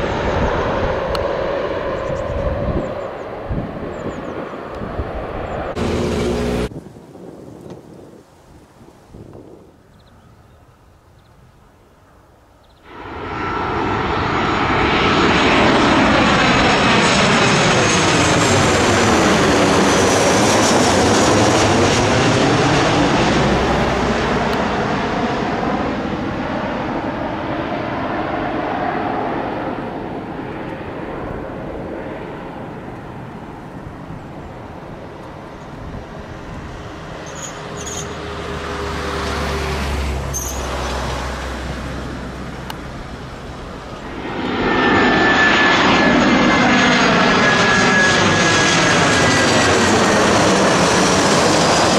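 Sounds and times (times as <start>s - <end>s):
jet airliner passing overhead: 0.0s - 7.3s, 11.6s - 51.9s.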